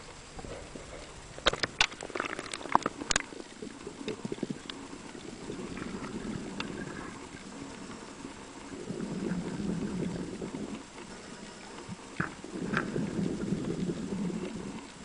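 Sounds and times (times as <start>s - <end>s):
muffled underwater noise: 0.0s - 15.0s
underwater bubbling: 0.0s - 15.0s
water splashing: 1.4s - 15.0s.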